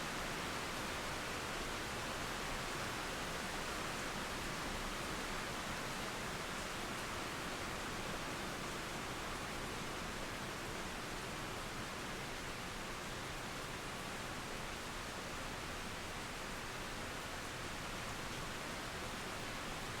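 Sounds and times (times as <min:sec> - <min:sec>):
rain falling on trees: 0:00.0 - 0:20.0.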